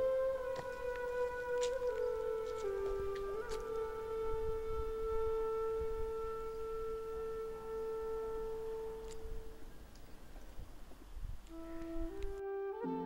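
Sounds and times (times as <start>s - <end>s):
long held woodwind note: 0.0s - 9.8s, 11.4s - 13.0s.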